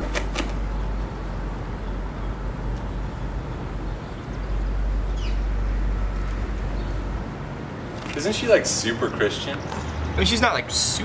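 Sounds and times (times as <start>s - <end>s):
low urban rumble: 0.0s - 11.0s.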